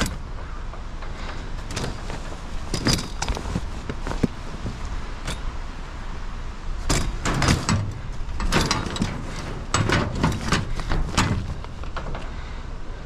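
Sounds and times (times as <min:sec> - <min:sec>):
metal chairs clanking: 0:00.0 - 0:05.6, 0:06.8 - 0:12.4
steady low rumble: 0:00.0 - 0:13.0.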